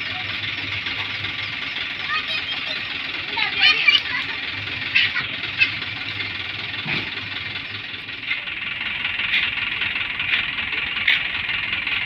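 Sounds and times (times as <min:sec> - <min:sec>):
dump truck engine running: 0:00.0 - 0:12.0.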